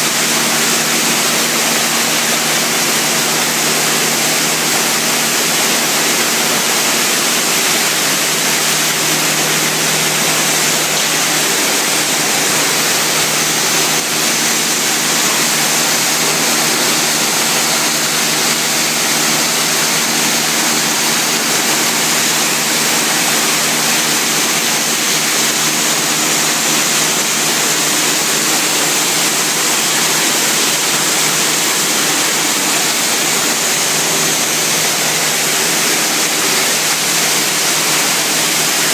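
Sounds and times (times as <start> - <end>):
washing machine rushing water: 0.0 - 38.9.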